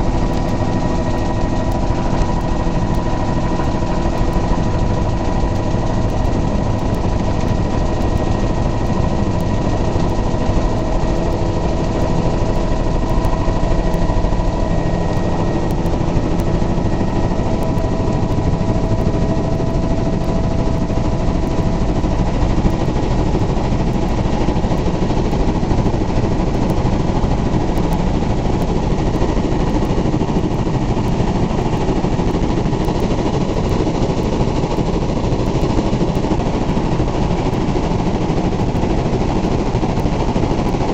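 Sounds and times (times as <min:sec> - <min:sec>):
helicopter rotor and turbine noise: 0:00.0 - 0:40.9.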